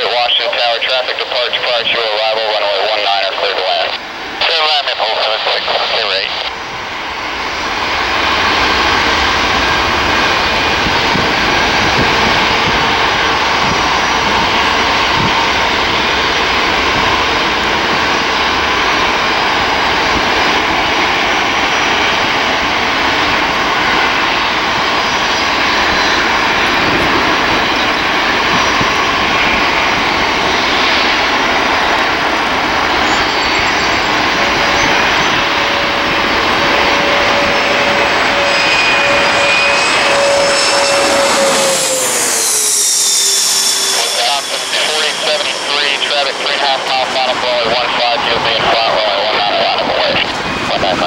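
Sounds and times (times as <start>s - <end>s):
jet engine whine: 0.0s - 51.0s
jet engines at takeoff: 0.0s - 51.0s.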